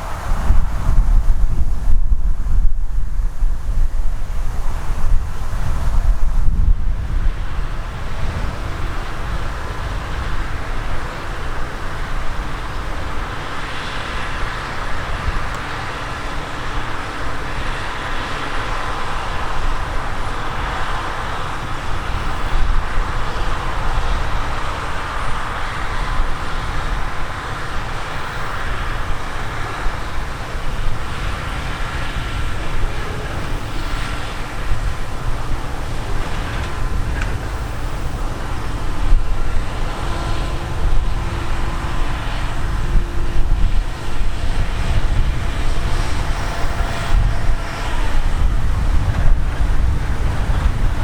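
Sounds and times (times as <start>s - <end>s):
faint machine whine: 0.0s - 51.0s
harvest machinery engine drone: 0.0s - 51.0s.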